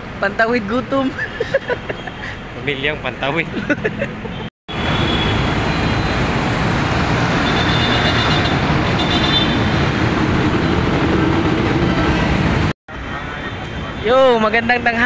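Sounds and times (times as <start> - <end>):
dense road traffic: 0.0 - 15.0
motorcycles passing: 0.7 - 14.0.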